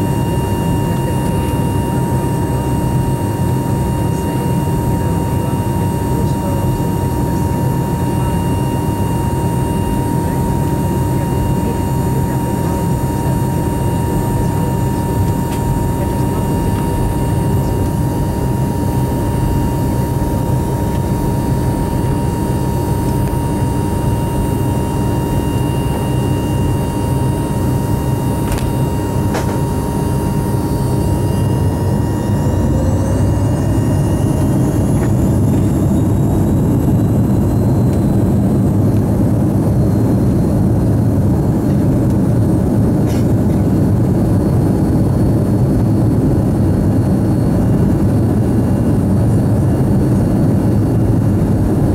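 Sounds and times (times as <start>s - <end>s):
jet engine cabin hum: 0.0s - 51.9s.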